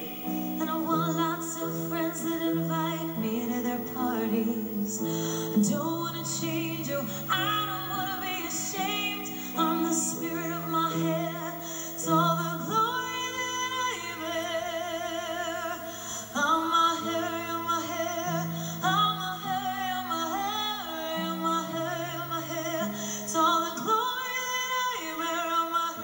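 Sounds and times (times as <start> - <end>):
woman singing with vibrato: 0.0 - 26.0.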